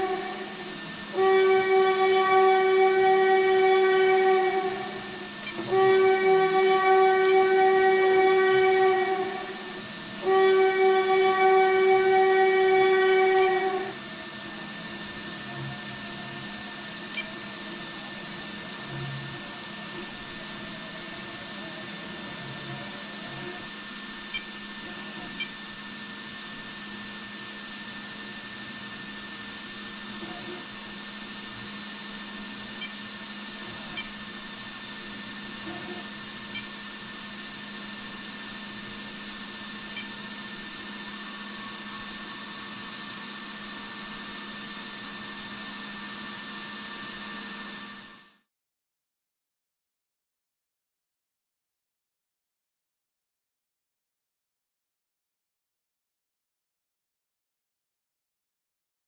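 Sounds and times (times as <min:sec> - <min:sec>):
whirring hum with high whine: 0:00.0 - 0:48.5.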